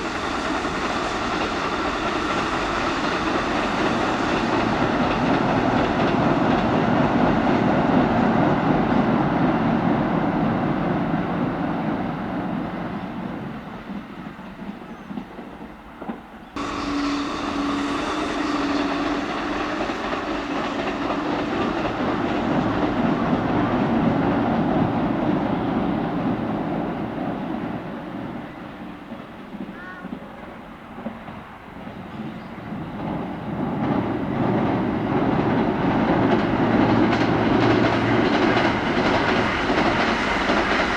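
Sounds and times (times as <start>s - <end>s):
electric train passing: 0.0s - 29.7s, 30.5s - 40.9s.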